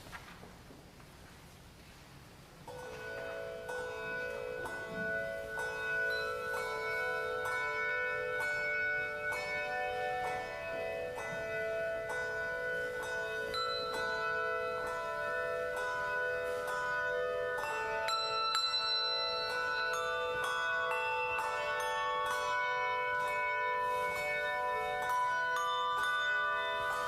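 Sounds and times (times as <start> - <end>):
carillon bells playing melody: 2.7 - 27.0.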